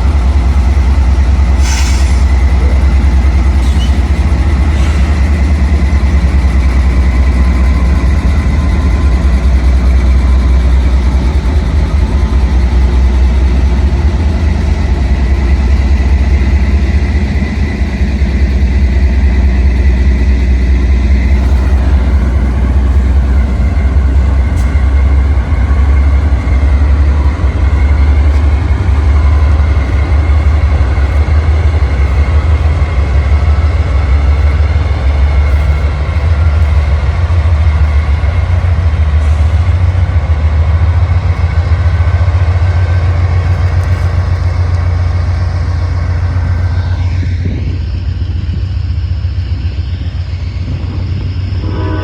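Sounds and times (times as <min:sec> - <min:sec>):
train rumbling past: 0:00.0 - 0:52.0.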